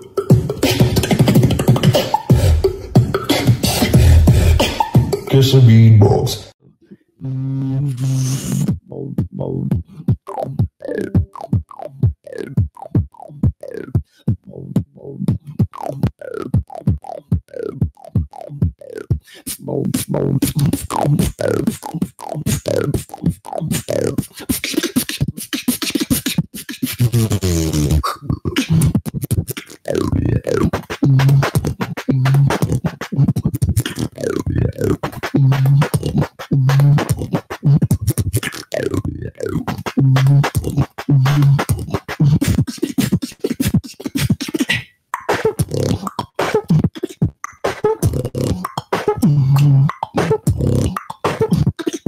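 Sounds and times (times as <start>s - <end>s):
person beatboxing into microphone: 0.0s - 52.0s.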